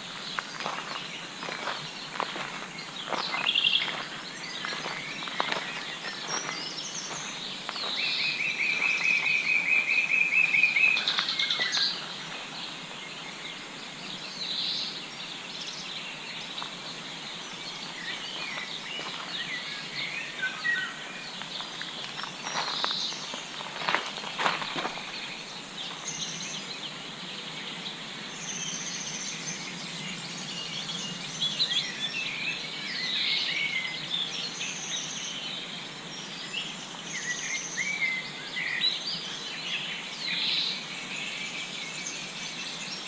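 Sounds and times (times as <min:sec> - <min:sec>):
birds chirping and singing: 0:00.0 - 0:43.0.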